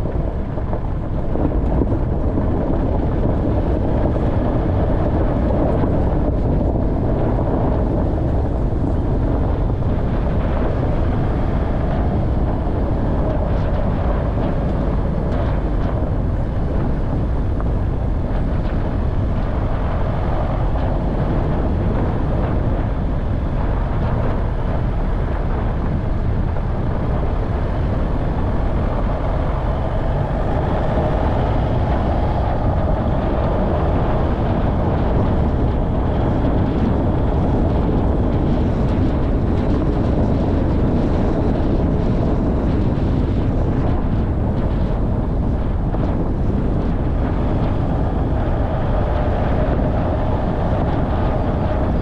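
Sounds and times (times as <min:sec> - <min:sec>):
off-road vehicle engine: 0:00.0 - 0:52.0.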